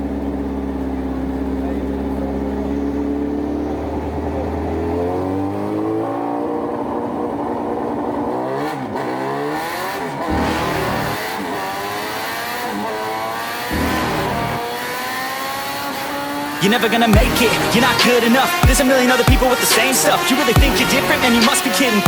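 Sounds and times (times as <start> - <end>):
engine revving under acceleration: 0.0 - 22.0.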